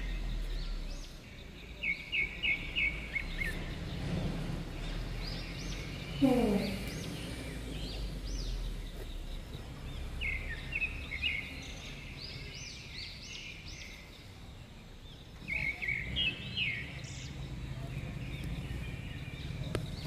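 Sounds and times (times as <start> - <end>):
outdoor background noise: 0.0 - 20.0
small birds chirping: 0.0 - 20.0.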